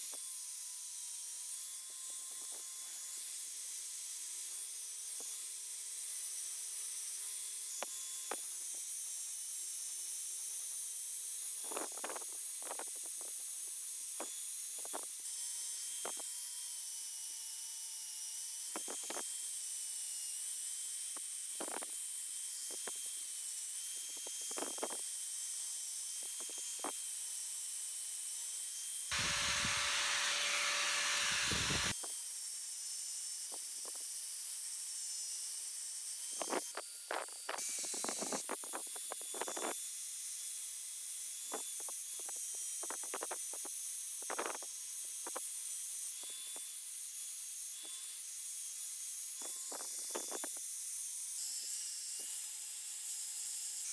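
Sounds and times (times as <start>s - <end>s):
angle grinder grinding metal: 0.0s - 53.9s.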